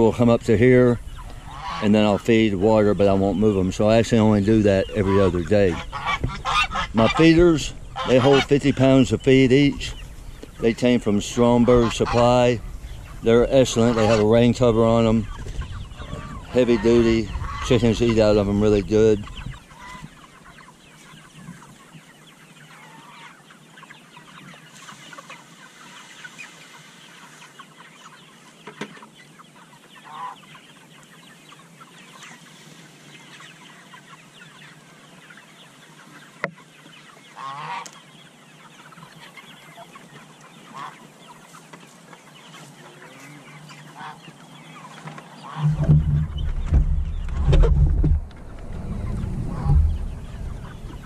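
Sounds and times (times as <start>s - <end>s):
chickens clucking and peeping: 0.0s - 51.0s.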